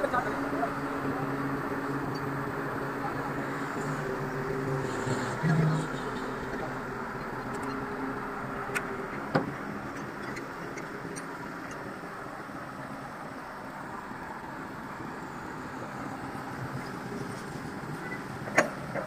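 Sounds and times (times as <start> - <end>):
crane diesel engine running: 0.0 - 19.0.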